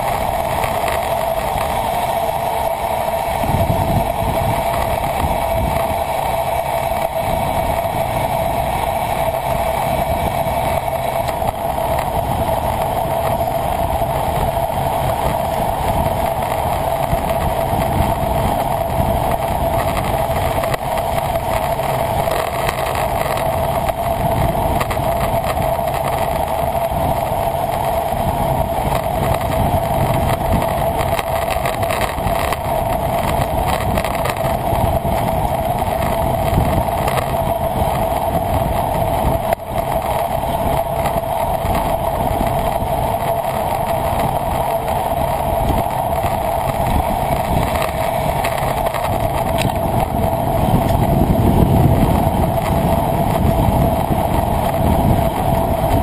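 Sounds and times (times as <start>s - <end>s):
bicycle road noise: 0.0s - 56.0s
wind rush: 0.0s - 56.0s.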